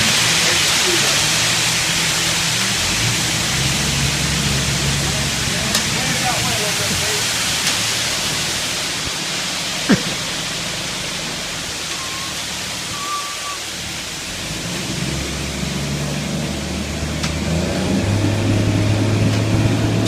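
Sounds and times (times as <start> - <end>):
steady rushing noise: 0.0 - 13.0, 13.7 - 20.0
engine running: 0.0 - 13.1, 13.7 - 20.0.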